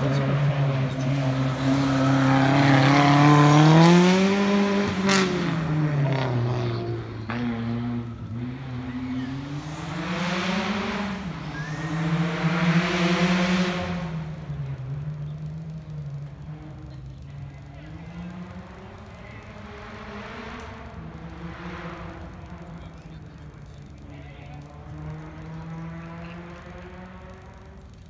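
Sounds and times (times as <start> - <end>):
race car engine accelerating: 0.0 - 28.0.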